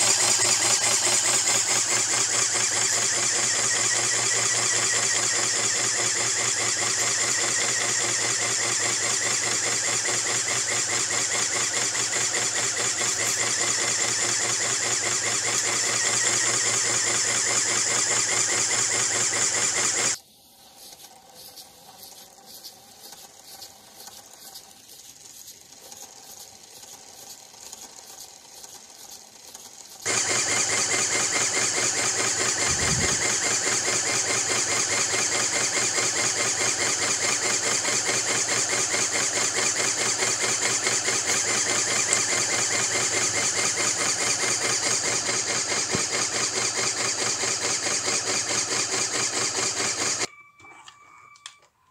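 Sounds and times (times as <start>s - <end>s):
pneumatic engine clatter: 0.0s - 20.2s, 20.9s - 50.3s
rhythmic flywheel engine ticking: 0.0s - 20.2s, 23.0s - 50.3s.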